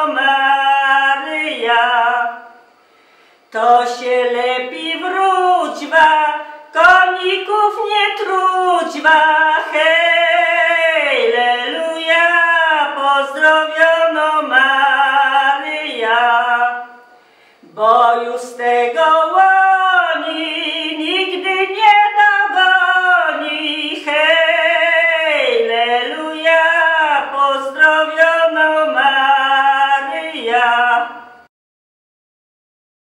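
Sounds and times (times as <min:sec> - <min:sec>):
woman singing unaccompanied: 0:00.0 - 0:02.6, 0:03.5 - 0:31.5.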